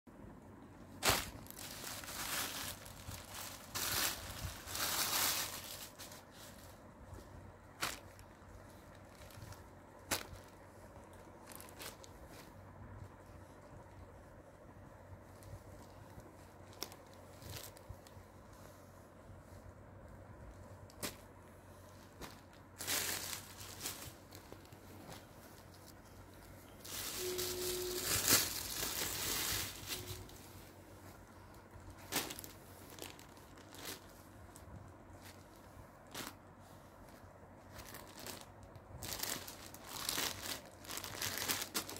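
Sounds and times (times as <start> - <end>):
cloth rustling and crinkling: 0.4 - 41.9.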